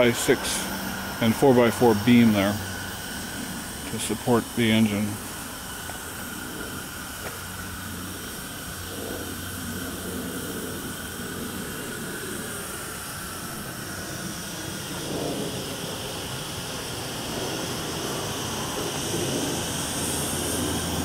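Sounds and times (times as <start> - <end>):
low mechanical hum: 0.0 - 21.0
steam hissing: 0.0 - 21.0.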